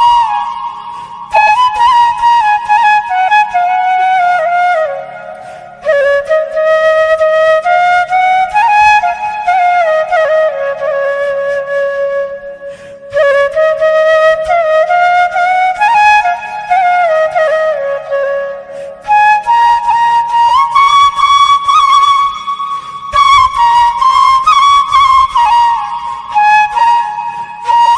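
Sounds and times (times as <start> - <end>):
instrumental melody: 0.0 - 27.9.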